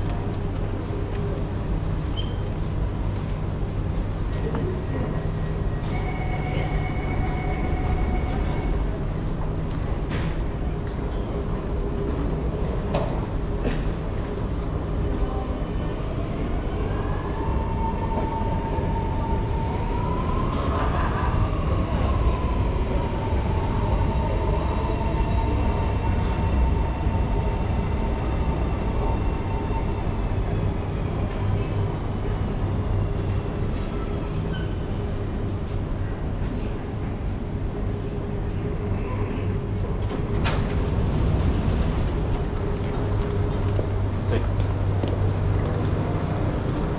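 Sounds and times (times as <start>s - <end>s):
train pulling into station: 0.0s - 46.9s.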